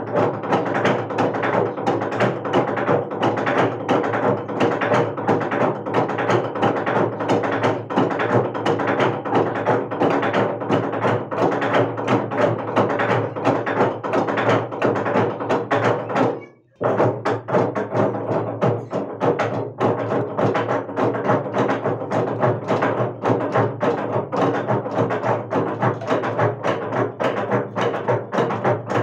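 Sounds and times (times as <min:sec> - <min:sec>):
log drum beaten with wooden beaters: 0:00.0 - 0:29.0.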